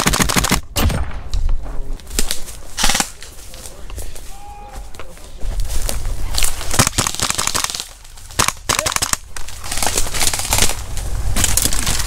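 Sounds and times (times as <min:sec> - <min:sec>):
twigs and leaves crackling: 0:01.3 - 0:12.0.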